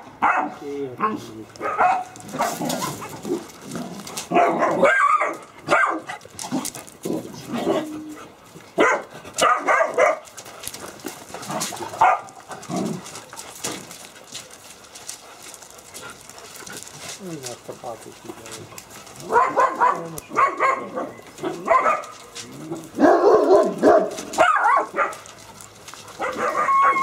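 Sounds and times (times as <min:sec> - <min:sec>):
puppies barking and yapping: 0:00.0 - 0:27.0.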